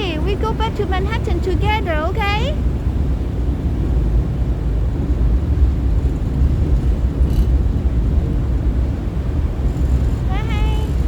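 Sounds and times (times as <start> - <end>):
ferry low rumble: 0.0 - 11.0.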